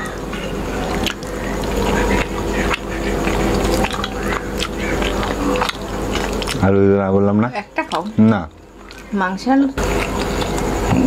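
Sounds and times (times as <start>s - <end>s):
steady low hum: 0.0s - 11.0s
wet chewing: 0.0s - 11.0s.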